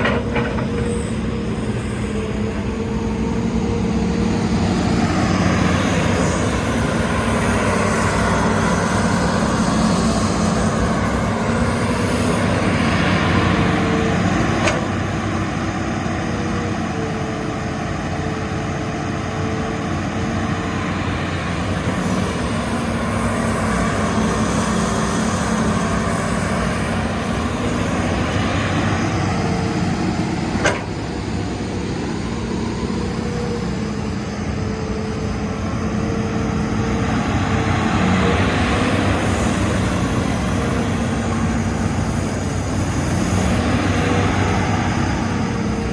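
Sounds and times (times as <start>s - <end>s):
excavator engine buzzing: 0.0s - 45.9s.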